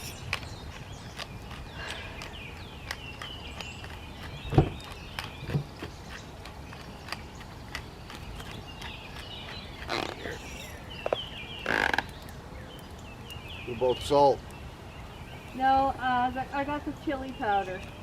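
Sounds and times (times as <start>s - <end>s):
birds chirping and calling: 0.0s - 18.0s
rustle: 0.0s - 18.0s.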